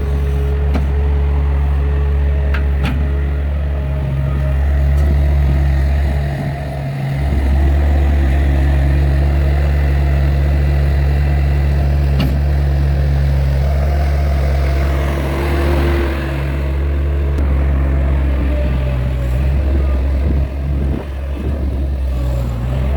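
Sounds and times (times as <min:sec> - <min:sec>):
skid steer engine running: 0:00.0 - 0:22.9.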